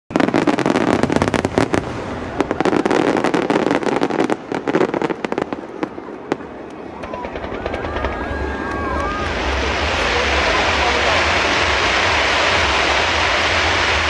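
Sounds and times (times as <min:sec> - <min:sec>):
fireworks bursting: 0:00.1 - 0:14.0.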